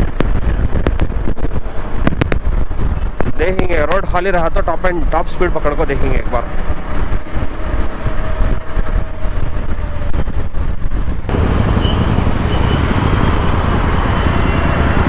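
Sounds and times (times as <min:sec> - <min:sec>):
road noise: 0:00.0 - 0:15.0
wind rush: 0:00.0 - 0:15.0.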